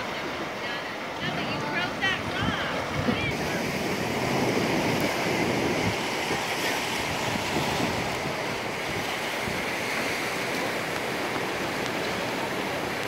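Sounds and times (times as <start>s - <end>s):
surf washing over rocks: 0.0s - 13.0s
wind rumbling on microphone: 0.0s - 13.0s.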